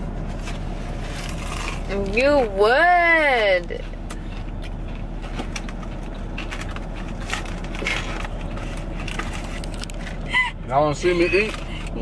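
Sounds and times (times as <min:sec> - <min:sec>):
steady car hum: 0:00.0 - 0:12.0.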